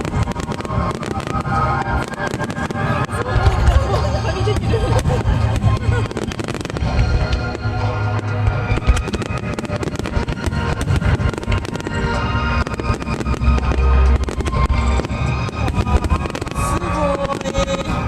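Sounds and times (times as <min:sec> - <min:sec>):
fireworks cracking and banging: 0:00.0 - 0:18.0.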